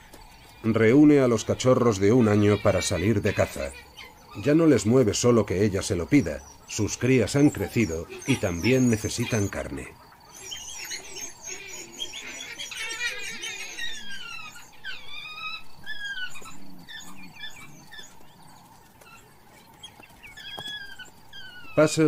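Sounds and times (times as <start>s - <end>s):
wild dogs twittering and squealing: 0.0s - 22.0s.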